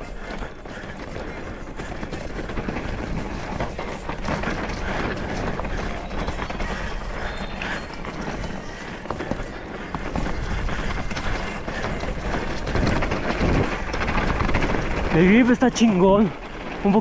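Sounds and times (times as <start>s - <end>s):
bike chain rattling: 0.0s - 17.0s
bike tyres on loose dirt: 0.0s - 17.0s.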